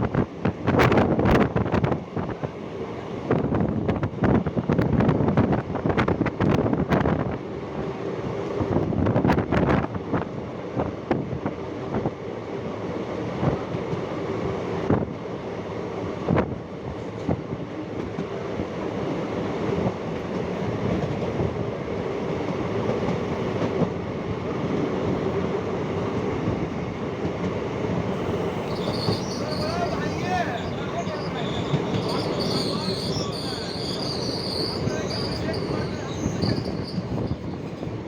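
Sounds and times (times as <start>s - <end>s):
train wheels rumbling on rails: 3.2s - 38.0s.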